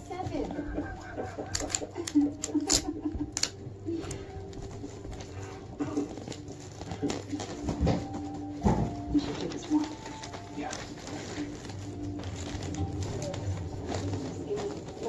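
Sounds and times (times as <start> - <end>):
paper rustling: 0.0 - 15.0
wrapping paper crinkling: 0.0 - 15.0.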